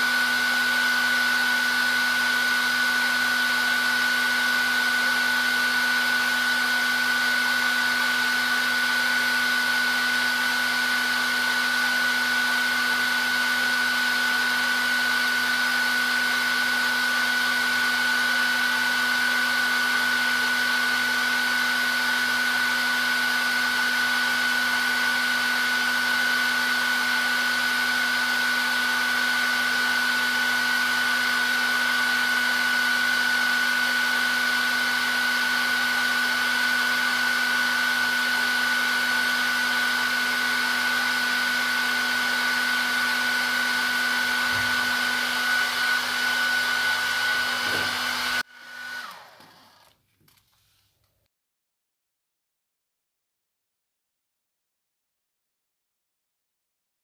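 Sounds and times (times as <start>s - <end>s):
hair dryer running: 0.0s - 50.0s.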